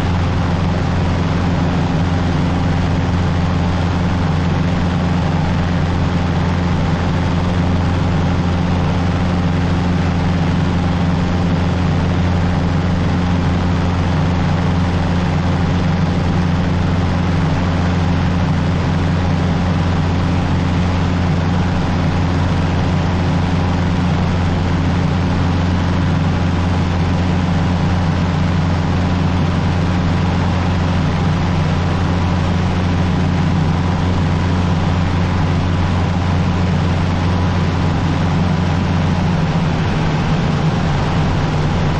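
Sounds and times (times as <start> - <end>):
light aircraft engine droning: 0.0 - 41.9.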